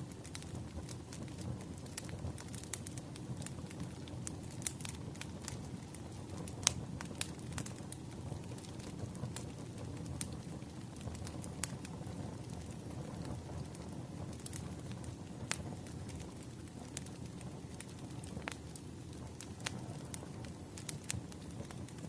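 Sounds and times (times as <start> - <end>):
wood fire crackling: 0.0 - 22.0
sharp pops of fire: 0.1 - 22.0.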